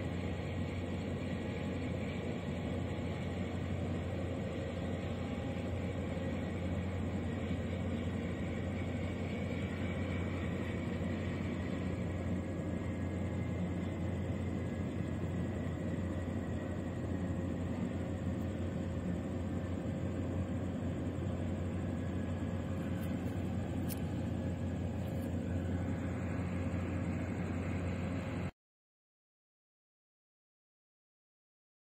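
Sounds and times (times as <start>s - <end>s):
distant engines and machinery rumble: 0.0s - 28.5s
faint whine: 0.0s - 28.6s.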